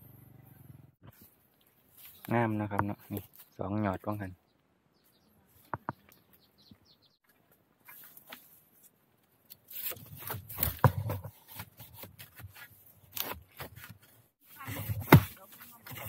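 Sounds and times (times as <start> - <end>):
dry leaves and twigs crackling: 1.0 - 4.3, 5.0 - 16.0.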